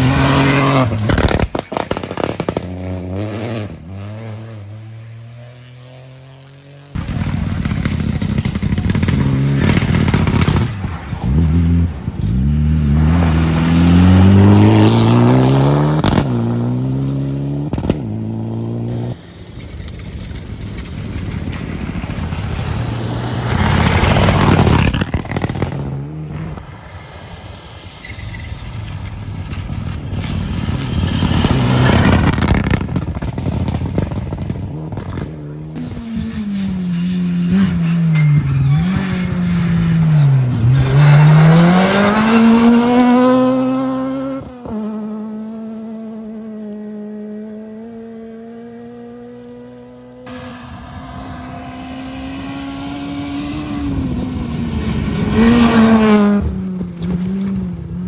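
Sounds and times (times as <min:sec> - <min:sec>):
gravel scraping under tyres: 0:00.0 - 0:05.8, 0:07.0 - 0:46.8, 0:50.3 - 0:58.0
rally car engines revving: 0:00.0 - 0:26.7, 0:28.1 - 0:58.0.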